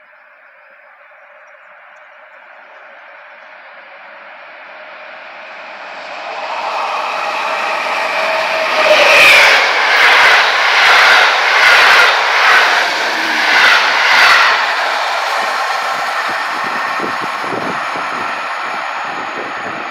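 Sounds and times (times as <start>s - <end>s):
train passing at speed: 2.1s - 19.9s.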